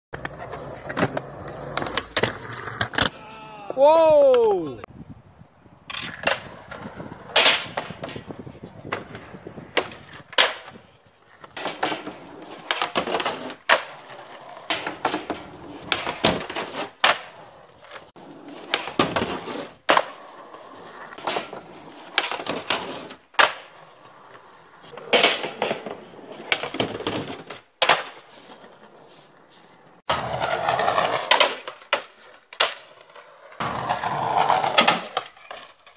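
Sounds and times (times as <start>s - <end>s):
skateboard popping and landing: 0.1s - 3.2s, 5.9s - 35.9s
skateboard rolling on concrete: 0.1s - 3.6s, 4.2s - 35.9s
skateboard trucks grinding on wood: 0.2s - 3.2s, 5.9s - 35.9s.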